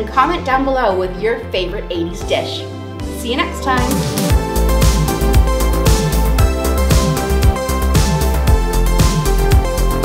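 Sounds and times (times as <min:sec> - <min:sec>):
upbeat electronic music: 0:00.0 - 0:10.0.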